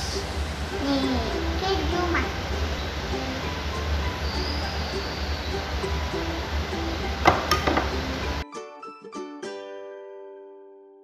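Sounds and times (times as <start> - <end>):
light plucked tune: 0.0 - 11.0.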